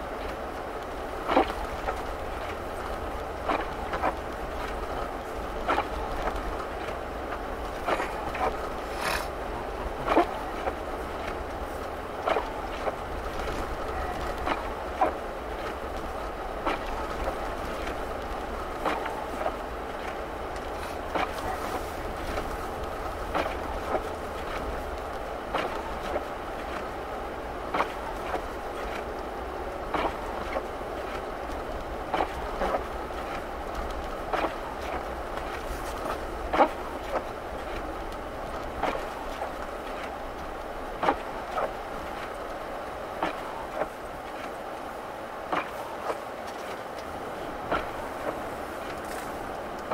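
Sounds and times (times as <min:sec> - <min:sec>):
car engine and tyre hum: 0:00.0 - 0:49.9.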